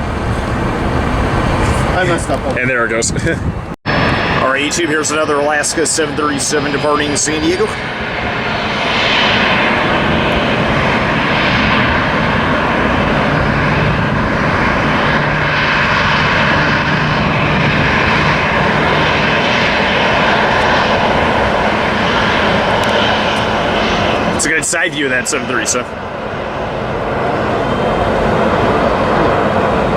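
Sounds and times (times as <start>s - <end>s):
jet engines roaring: 0.0s - 29.9s
low hum: 3.4s - 29.9s.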